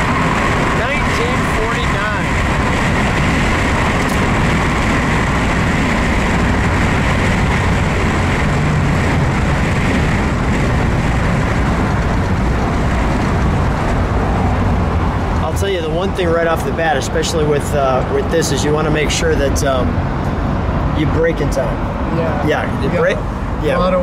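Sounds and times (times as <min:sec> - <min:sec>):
wind and road noise in car: 0:00.0 - 0:24.0.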